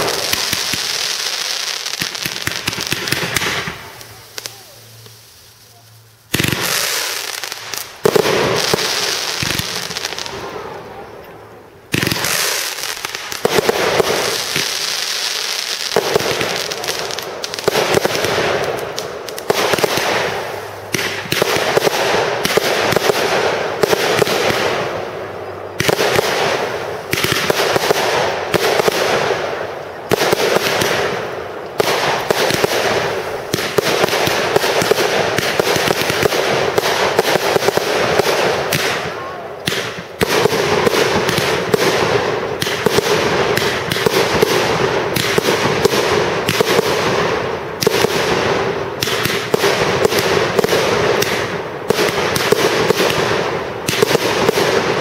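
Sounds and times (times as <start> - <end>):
fireworks bursting: 0.0 - 55.0
fireworks crackling: 0.0 - 55.0.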